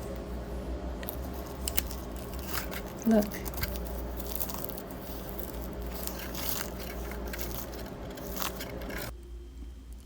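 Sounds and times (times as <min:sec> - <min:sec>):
low electrical hum: 0:00.0 - 0:10.0
puff pastry crackling and crunching: 0:01.0 - 0:09.2.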